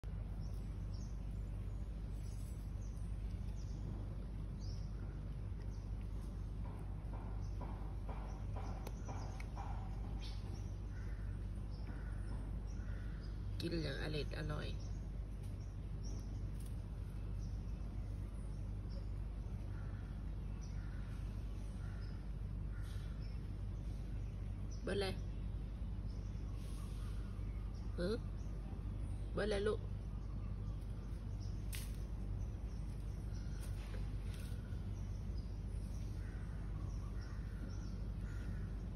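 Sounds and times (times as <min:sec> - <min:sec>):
low outdoor rumble: 0:00.0 - 0:38.9
faint bird chirps: 0:07.2 - 0:38.9.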